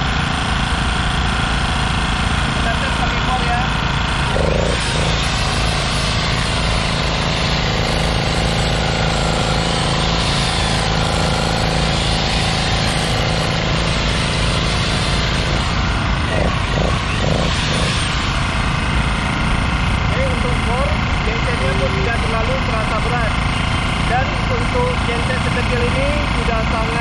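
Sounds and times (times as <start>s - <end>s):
hammer drill hammering into ground: 0.0s - 27.0s
portable generator running: 0.0s - 27.0s.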